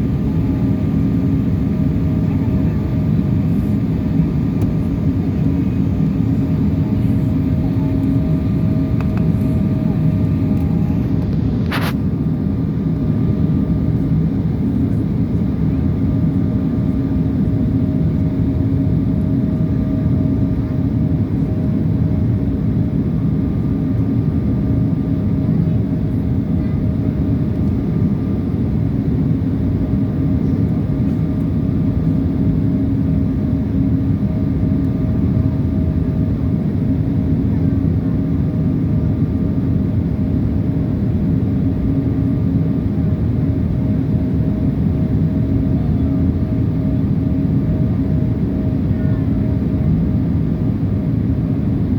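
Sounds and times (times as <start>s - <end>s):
constant hum: 0.0s - 51.9s
jet engine drone: 0.0s - 51.9s.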